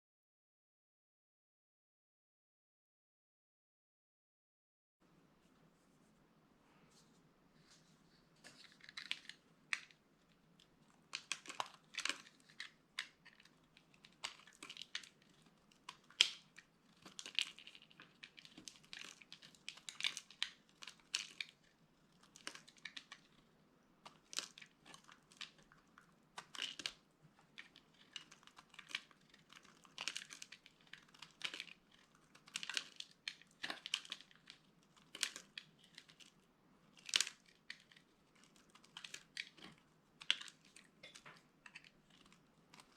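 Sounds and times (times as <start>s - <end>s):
dry soap crunching: 8.4s - 42.9s.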